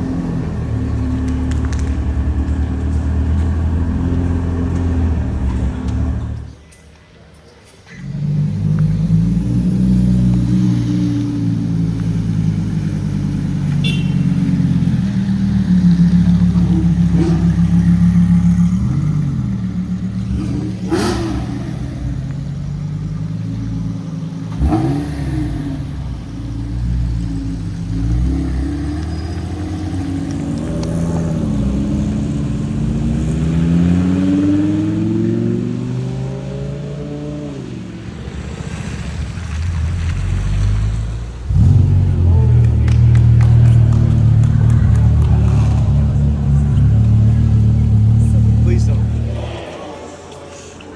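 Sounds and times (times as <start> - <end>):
car engines revving: 0.0 - 50.9.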